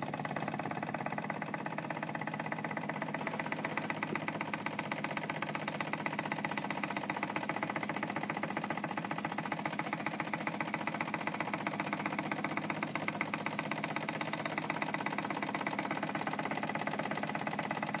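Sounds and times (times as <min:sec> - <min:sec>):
toy steam engine chuffing: 0:00.0 - 0:18.0.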